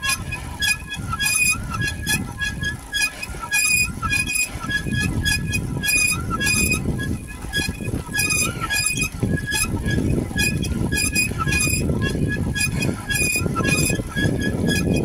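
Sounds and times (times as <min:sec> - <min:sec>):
bicycle squeaking: 0:00.0 - 0:15.0.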